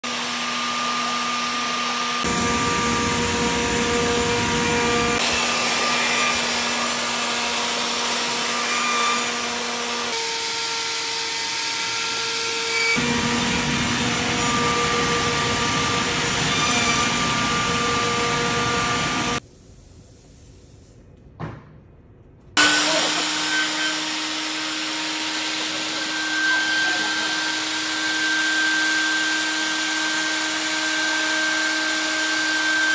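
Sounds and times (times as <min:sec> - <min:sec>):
cutting and dust extraction rush: 0:00.0 - 0:19.4, 0:22.6 - 0:32.9
router spindle high whine: 0:00.0 - 0:19.4, 0:22.6 - 0:32.9.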